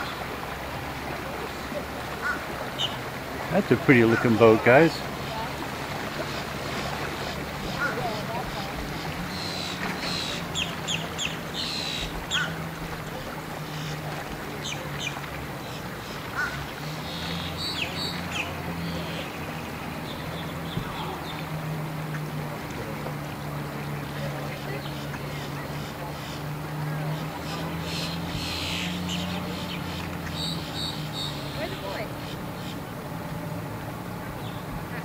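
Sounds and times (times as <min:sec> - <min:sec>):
birds chirping: 0:00.0 - 0:35.0
outboard motor idling: 0:00.0 - 0:35.0.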